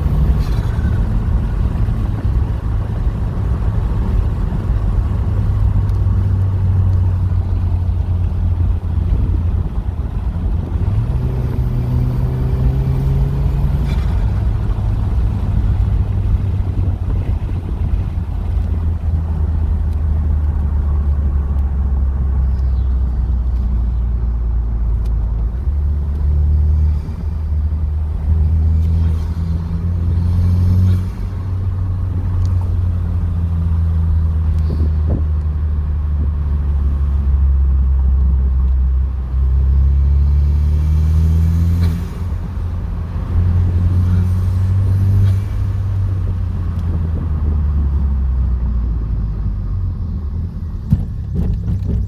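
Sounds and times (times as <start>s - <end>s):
car engine accelerating: 0.0s - 52.0s.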